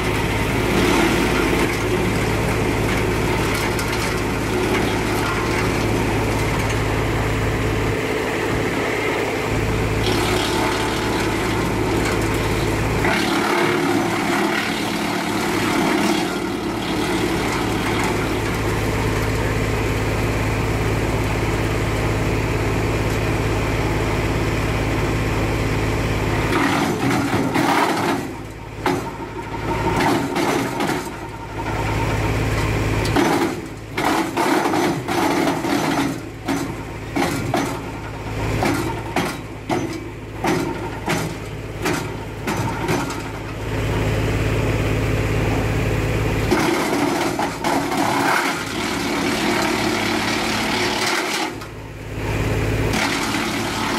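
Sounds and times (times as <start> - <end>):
tractor engine droning: 0.0 - 53.9
wood chipper chipping branches: 0.0 - 53.9.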